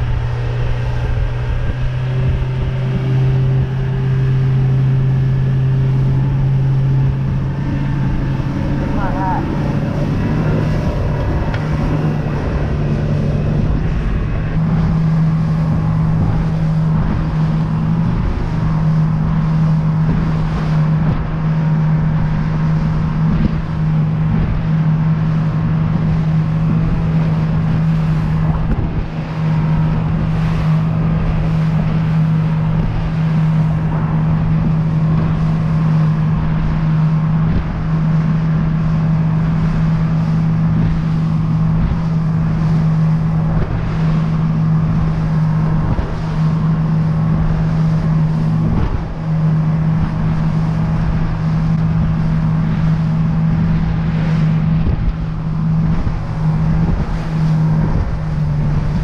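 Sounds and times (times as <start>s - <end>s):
outboard motor running: 0.0s - 59.0s
rush of wind and water: 0.0s - 59.0s.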